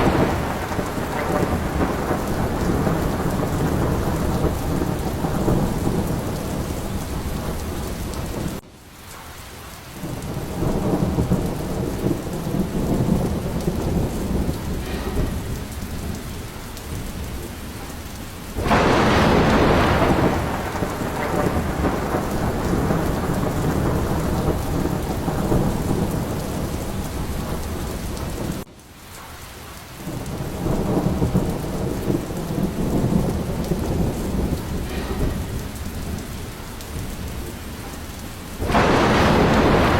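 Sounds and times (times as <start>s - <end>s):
loud sharp thunderclap: 0.0s - 8.6s, 10.0s - 28.7s, 30.0s - 39.9s
low rumbling thunder: 0.0s - 8.6s, 10.0s - 28.7s, 30.0s - 39.9s
steady rain: 0.0s - 39.9s.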